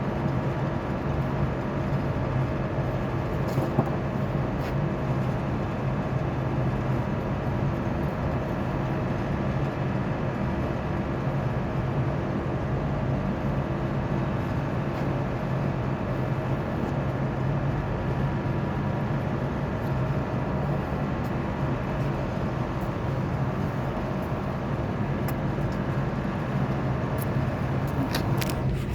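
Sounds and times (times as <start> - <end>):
hvac equipment droning: 0.0 - 28.9.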